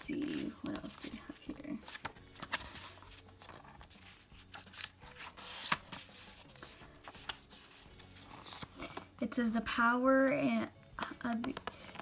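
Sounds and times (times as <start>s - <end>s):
paper pages turning: 0.0s - 9.2s, 11.0s - 12.0s.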